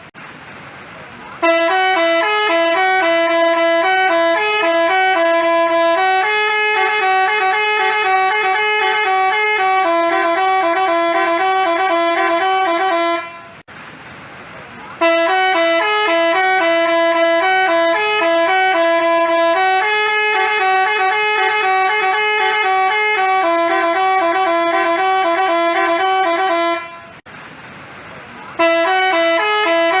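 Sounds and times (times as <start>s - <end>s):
musical bus horn playing tune: 1.4s - 13.7s, 15.0s - 27.2s, 28.6s - 30.0s.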